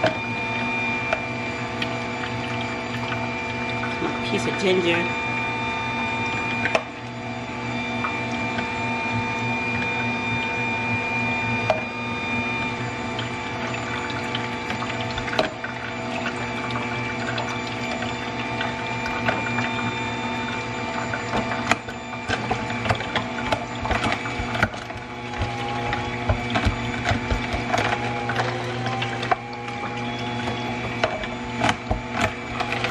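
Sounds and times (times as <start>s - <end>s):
juicer motor hum: 0.0s - 32.9s.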